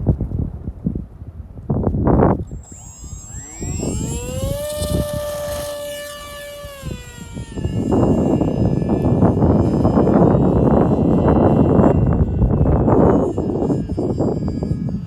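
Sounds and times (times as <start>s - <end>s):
wind buffeting microphone: 0.0s - 15.0s
electric motor whining: 2.4s - 15.0s.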